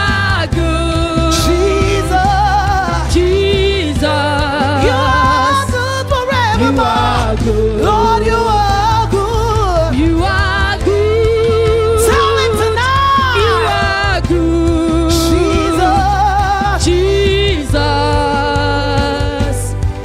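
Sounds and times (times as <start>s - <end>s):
singers with strong vibrato: 0.0s - 19.9s
band with steady bass line: 0.0s - 20.0s.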